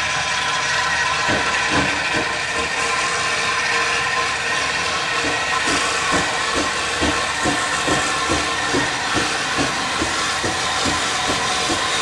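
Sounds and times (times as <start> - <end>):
steam engine hissing: 0.0 - 12.0.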